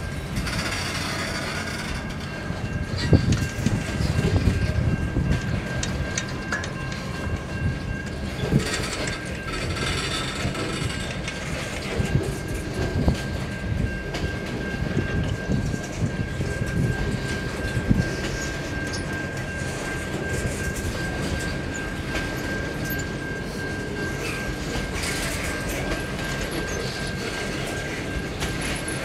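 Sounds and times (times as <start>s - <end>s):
train wagons rumbling: 0.0s - 29.0s.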